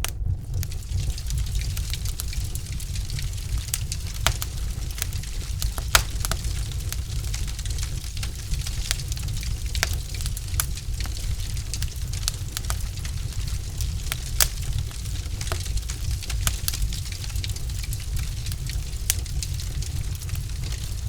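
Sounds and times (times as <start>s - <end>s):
logs crackling and popping: 0.0s - 21.0s
low rumble of fire: 0.0s - 21.0s.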